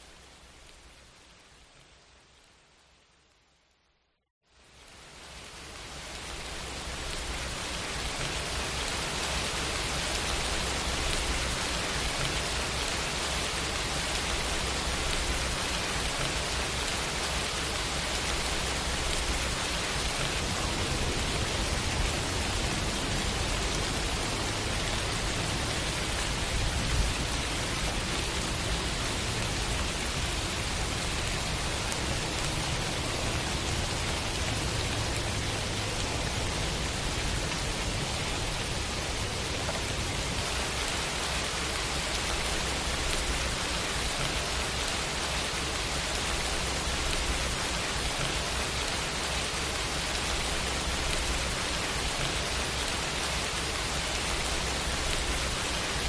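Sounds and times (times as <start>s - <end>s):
rain hiss: 4.5s - 56.0s.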